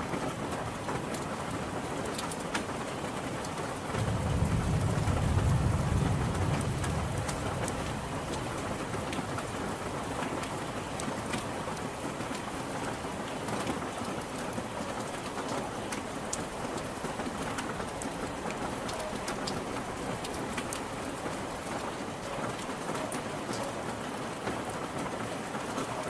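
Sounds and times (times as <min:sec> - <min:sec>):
rain falling: 0:00.0 - 0:26.0
raindrops ticking on hard surface: 0:00.1 - 0:26.0.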